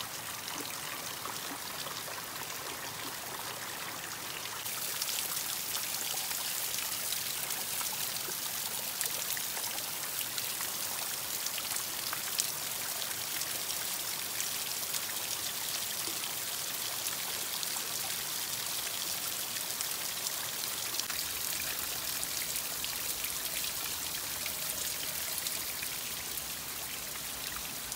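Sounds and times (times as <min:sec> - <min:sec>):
water trickling and splashing: 0:00.0 - 0:27.9.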